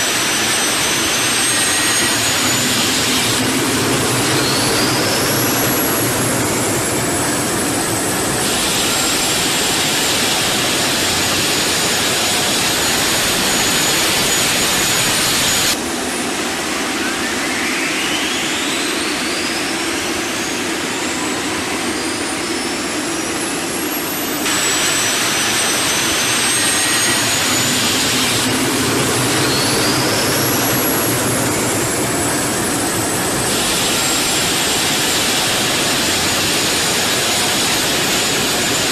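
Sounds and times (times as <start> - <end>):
helicopter turbine engines running: 0.0 - 38.9.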